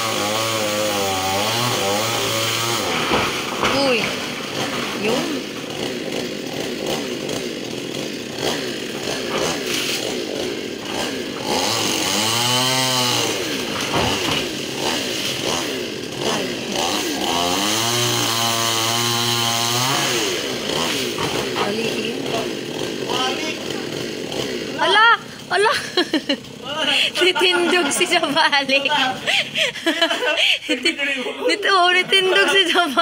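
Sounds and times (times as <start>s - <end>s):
chainsaw running and revving: 0.0s - 33.0s.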